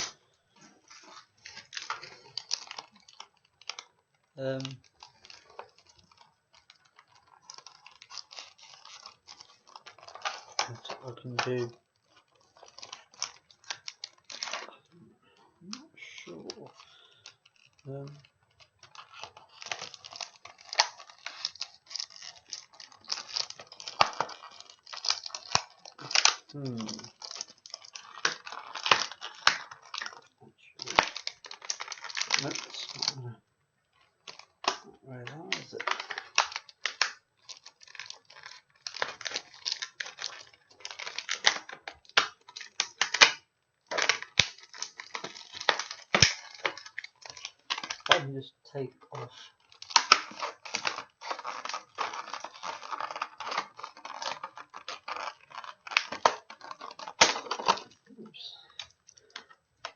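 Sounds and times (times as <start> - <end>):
packaging crinkling and rustling: 0.0 - 59.9.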